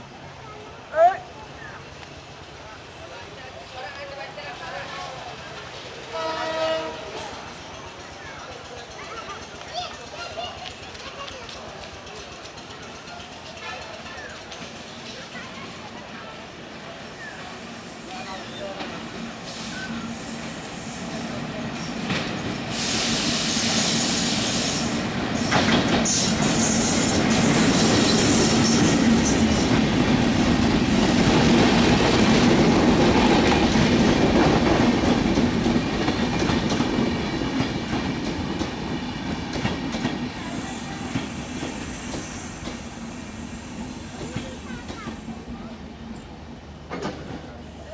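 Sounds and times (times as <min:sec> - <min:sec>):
train wheels clattering and squealing: 0:05.0 - 0:16.2, 0:17.0 - 0:45.6, 0:46.2 - 0:47.9.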